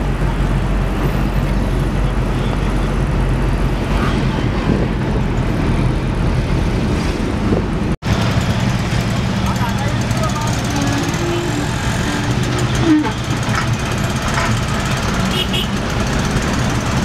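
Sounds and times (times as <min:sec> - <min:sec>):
tyre and road noise: 0:00.0 - 0:17.0.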